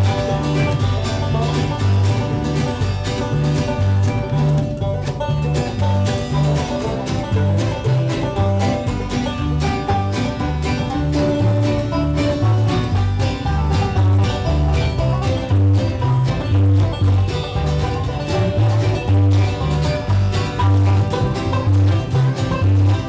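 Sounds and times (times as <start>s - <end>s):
banjo picking: 0.0s - 23.0s
guitar picking: 0.0s - 23.0s
pulsing bass line: 0.0s - 23.0s.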